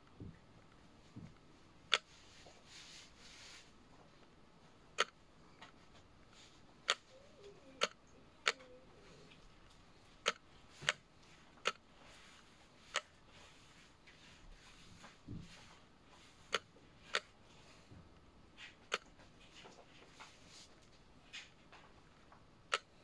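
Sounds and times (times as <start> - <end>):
faint room hiss: 0.0 - 23.0.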